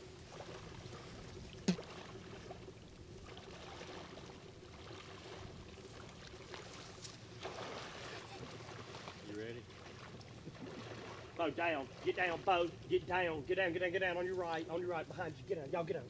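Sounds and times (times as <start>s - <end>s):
wading through shallow water: 0.0s - 16.0s.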